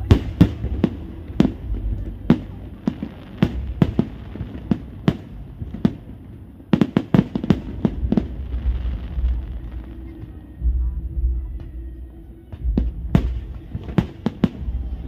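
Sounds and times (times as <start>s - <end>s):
low rumble: 0.0s - 6.7s, 7.4s - 15.0s
fireworks bangs: 0.0s - 15.0s.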